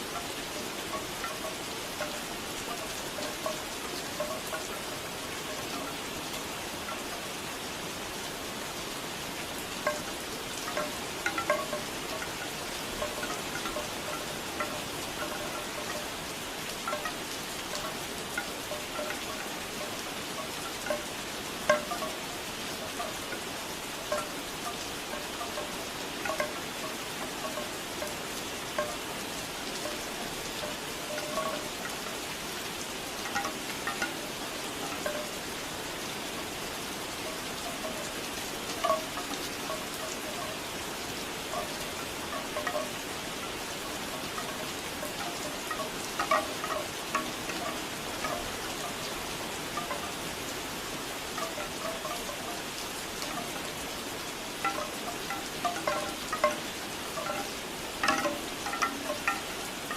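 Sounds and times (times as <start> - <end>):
bamboo wind chimes clacking: 0.0 - 59.9
steady rain falling: 0.0 - 59.9.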